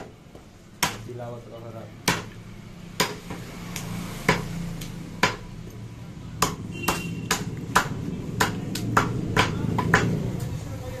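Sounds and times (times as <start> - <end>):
cleavers chopping meat on wood: 0.0 - 1.4, 2.0 - 5.7, 6.3 - 10.4.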